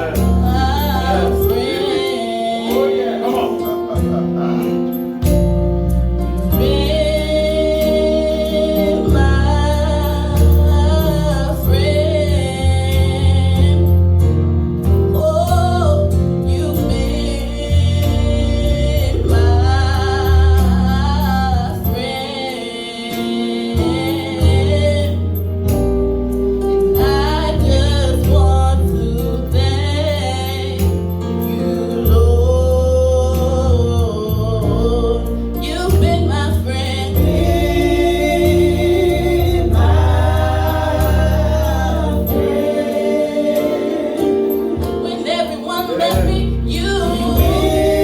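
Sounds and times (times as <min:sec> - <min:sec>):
gospel singers and choir: 0:00.0 - 0:48.0
band with strong bass: 0:03.5 - 0:22.4, 0:23.7 - 0:45.2, 0:46.0 - 0:48.0.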